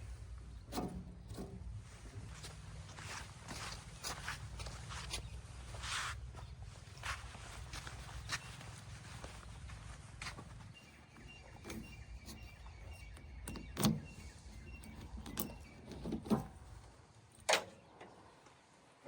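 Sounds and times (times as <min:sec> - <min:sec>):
diesel engine rumbling: 0:00.0 - 0:17.1.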